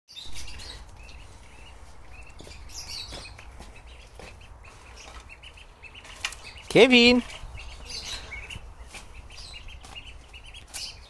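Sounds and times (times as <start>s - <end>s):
duckling peeping: 0.2s - 11.0s.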